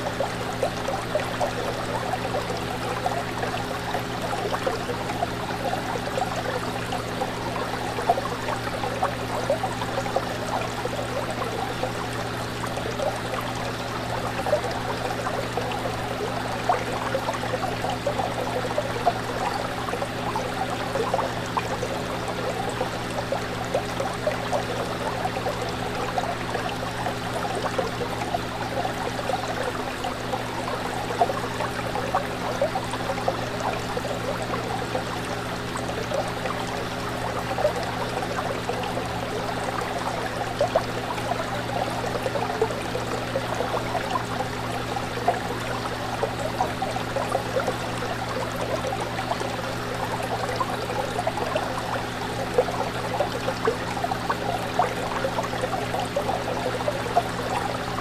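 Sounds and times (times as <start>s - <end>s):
fish tank water bubbling: 0.0s - 58.0s.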